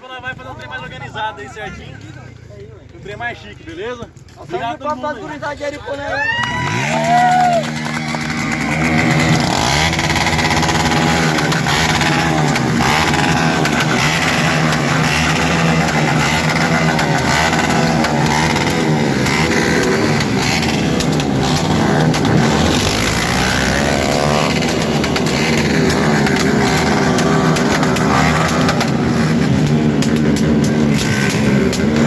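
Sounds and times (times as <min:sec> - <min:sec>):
motorcycle engines revving: 0:04.1 - 0:32.0.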